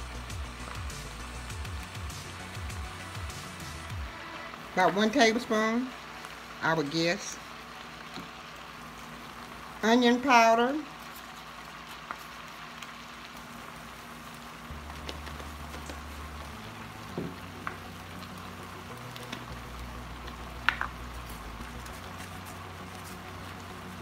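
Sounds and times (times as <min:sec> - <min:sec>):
vegetables sizzling in a pan: 0:00.0 - 0:24.0.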